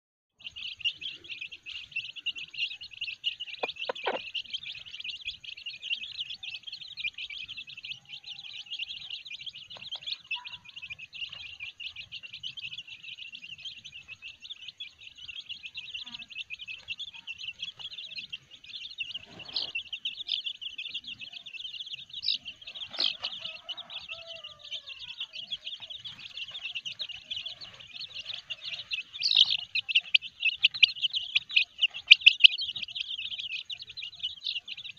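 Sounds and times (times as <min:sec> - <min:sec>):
chicks peeping: 0:00.4 - 0:34.9.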